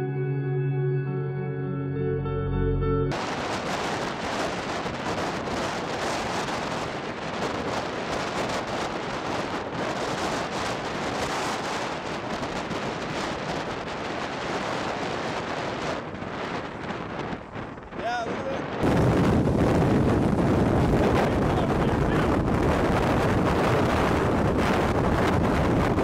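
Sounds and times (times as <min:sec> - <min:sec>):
storm wind and rain: 0:03.1 - 0:26.0.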